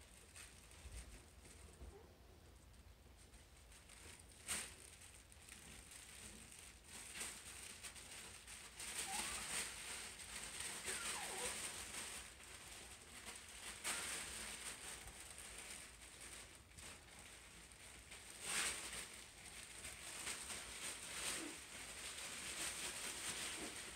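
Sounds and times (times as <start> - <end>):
puppy paws pattering on tile: 0.0 - 23.9.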